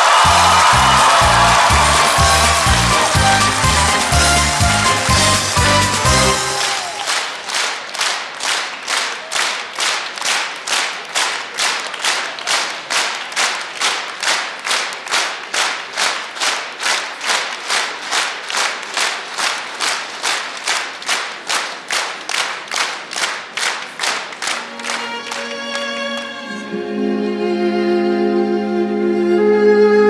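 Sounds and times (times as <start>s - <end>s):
audience clapping in unison: 0.0s - 26.4s.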